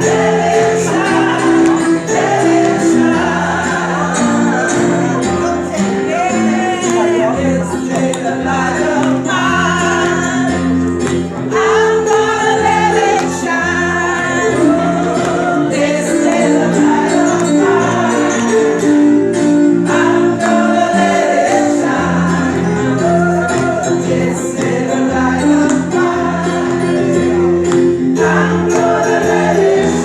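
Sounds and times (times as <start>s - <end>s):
gospel singing: 0.0s - 30.0s.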